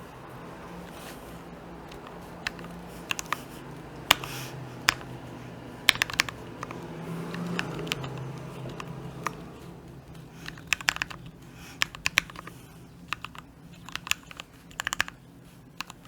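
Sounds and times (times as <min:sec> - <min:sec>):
low steady hum: 0:00.0 - 0:16.0
mechanical keyboard keystrokes: 0:00.7 - 0:16.0.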